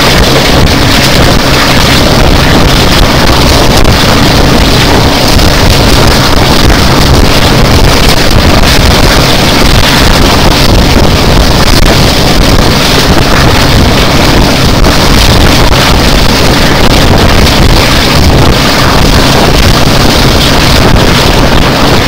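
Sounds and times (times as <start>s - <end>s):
train running at speed: 0.0s - 22.0s
wind buffeting microphone: 0.0s - 22.0s.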